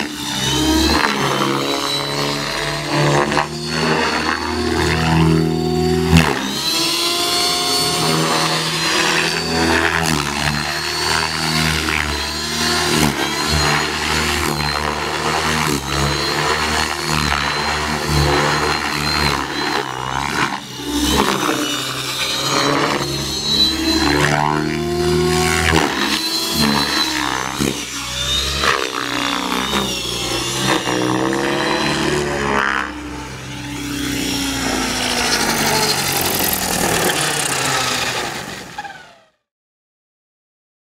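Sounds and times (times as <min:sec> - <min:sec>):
rc helicopter motor whine: 0:00.0 - 0:39.5.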